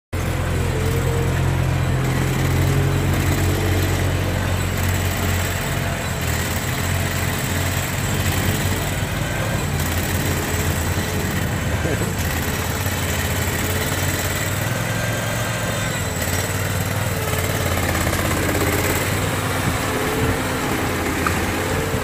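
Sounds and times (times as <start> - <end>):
diesel engine running: 0.1 - 22.0.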